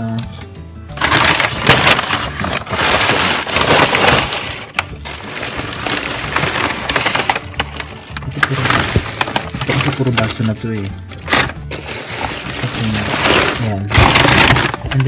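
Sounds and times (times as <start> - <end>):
plastic bags rustling: 1.0 - 15.0.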